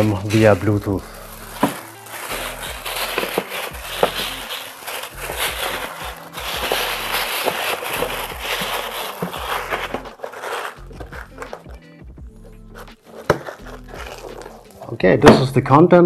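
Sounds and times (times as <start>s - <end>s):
paper and plastic crinkling: 0.0s - 15.6s.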